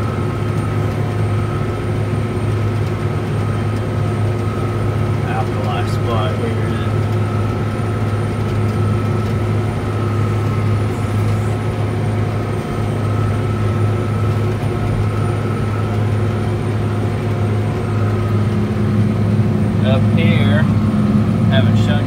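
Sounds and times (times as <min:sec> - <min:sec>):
faint steady whining tones: 0:00.0 - 0:22.0
tractor diesel engine droning: 0:00.0 - 0:22.0.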